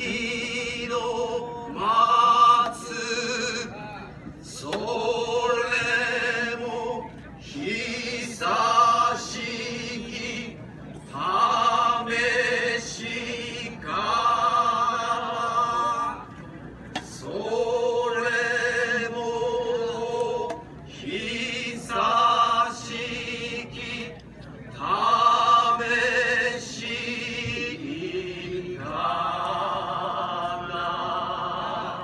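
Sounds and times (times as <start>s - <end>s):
voices singing a slow folk song: 0.0s - 16.4s, 17.0s - 24.2s, 24.8s - 32.0s.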